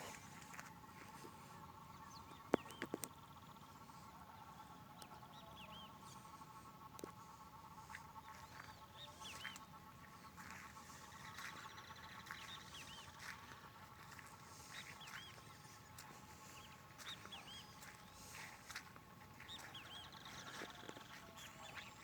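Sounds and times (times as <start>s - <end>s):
frogs calling: 0.0s - 22.0s.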